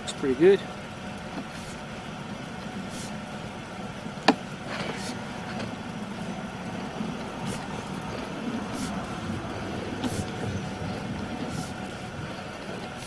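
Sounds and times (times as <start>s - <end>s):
motor running steadily: 0.0s - 13.0s.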